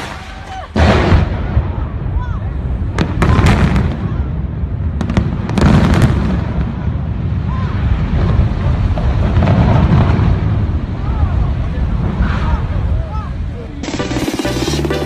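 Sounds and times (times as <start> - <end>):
demolition blasts: 0.0 - 12.8
low rumble of collapsing towers: 0.0 - 14.1.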